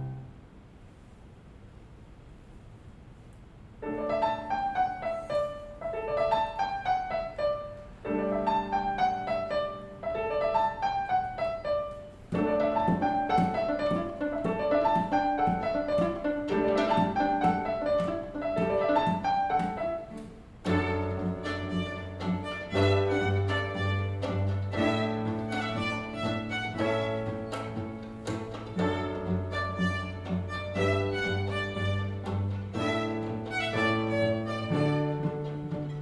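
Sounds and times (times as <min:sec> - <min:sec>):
solo piano: 0:00.0 - 0:00.4, 0:03.8 - 0:36.0.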